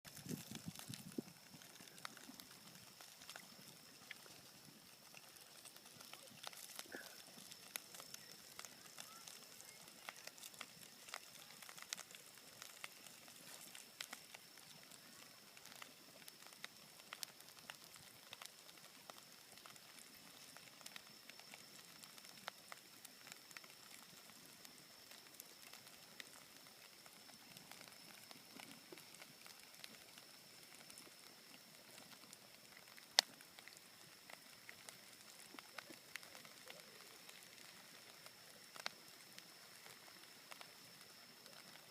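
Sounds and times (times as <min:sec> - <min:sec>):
wood bonfire crackling: 0:00.0 - 0:41.9.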